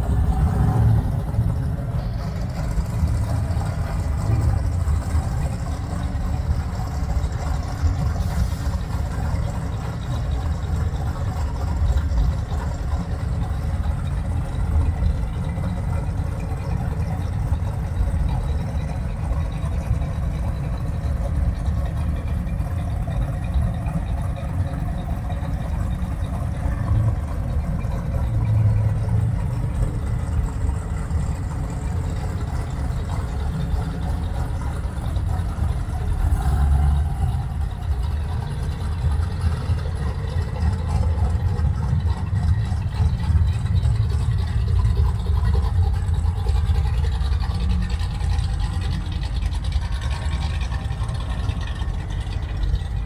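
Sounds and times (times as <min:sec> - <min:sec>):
cars idling and passing: 0:00.0 - 0:53.0.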